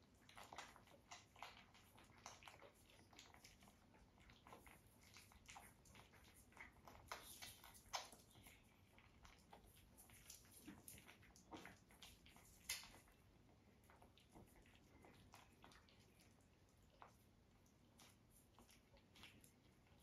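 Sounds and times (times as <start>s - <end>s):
puppies suckling: 0.0s - 20.0s.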